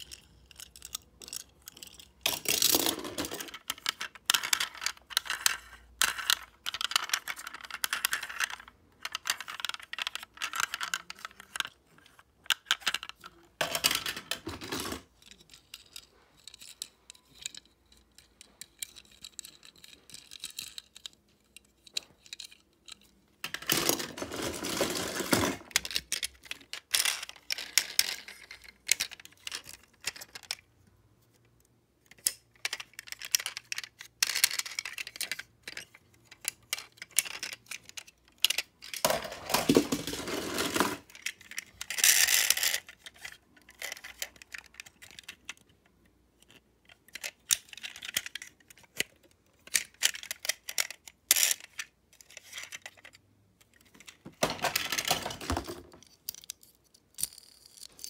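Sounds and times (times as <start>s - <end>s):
toy cars rubbing and rattling: 0.0s - 30.6s, 32.1s - 58.0s
toy cars clicking and tapping: 0.0s - 30.7s, 31.4s - 58.0s.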